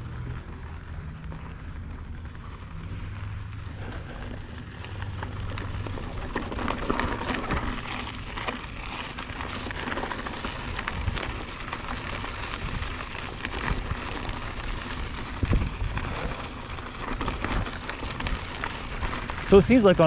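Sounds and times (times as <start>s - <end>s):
bike clicks and rattles: 0.0s - 20.0s
bike tyres crunching on gravel: 0.0s - 20.0s.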